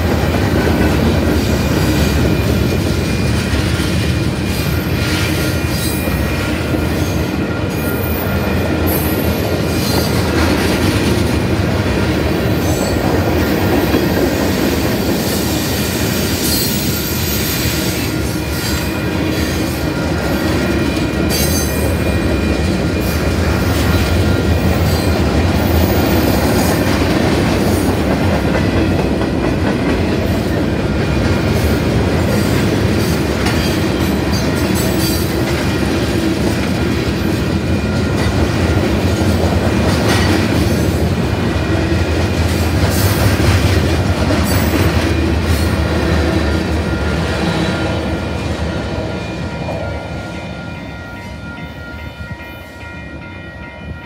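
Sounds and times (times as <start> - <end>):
rail clacks: 0.0 - 54.0
steel wheels rumbling on rails: 0.0 - 54.0.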